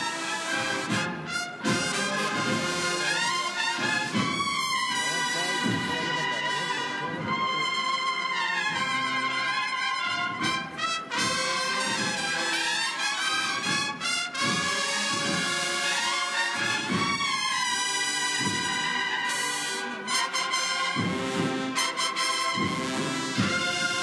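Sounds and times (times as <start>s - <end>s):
drum strokes: 0.0s - 8.0s, 8.8s - 24.0s
bugle melody: 0.0s - 24.0s.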